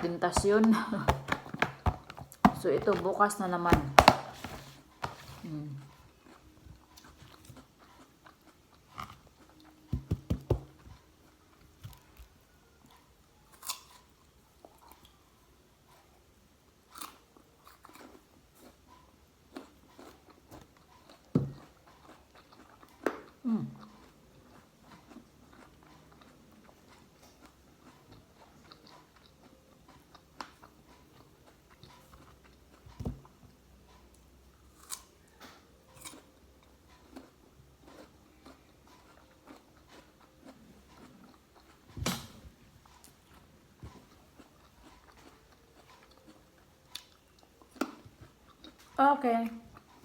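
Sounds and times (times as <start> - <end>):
crunchy chewing: 5.0 - 10.1, 10.7 - 15.2, 16.8 - 49.0.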